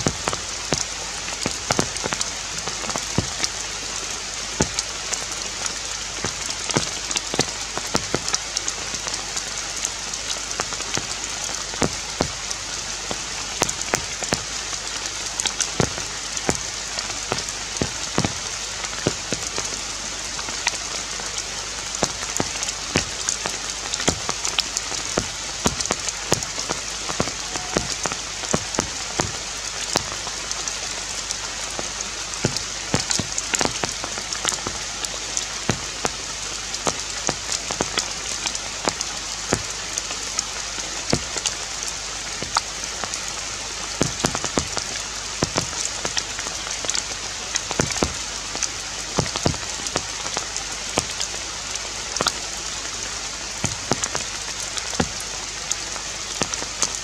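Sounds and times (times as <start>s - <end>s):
rain hissing: 0.0s - 57.0s
raindrops ticking on leaves: 0.0s - 57.0s.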